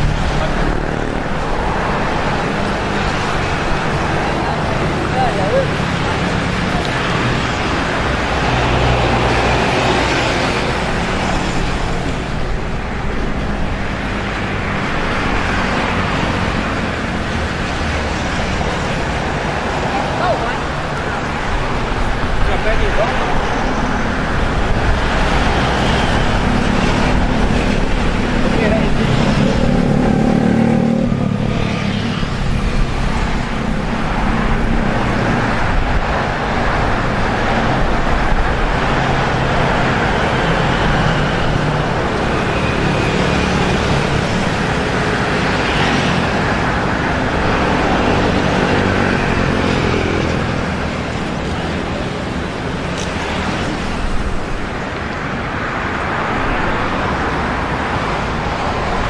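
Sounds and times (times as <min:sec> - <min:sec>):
passing cars and motorcycles: 0:00.0 - 0:59.0
rush of road noise: 0:00.0 - 0:59.0.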